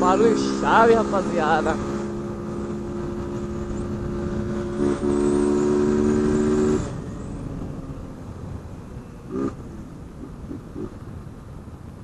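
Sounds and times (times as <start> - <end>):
motorcycle engine revving: 0.0 - 8.1, 9.2 - 11.0.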